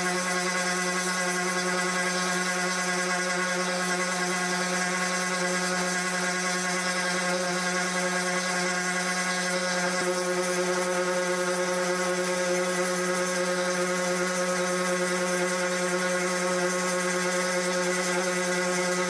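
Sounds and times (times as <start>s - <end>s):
machine running: 0.1s - 19.0s.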